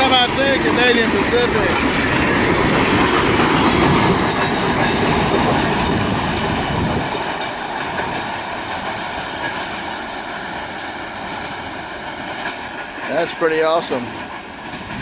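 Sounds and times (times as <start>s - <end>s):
low train rumble: 0.0s - 15.0s
train wheels clacking on rails: 0.0s - 15.0s.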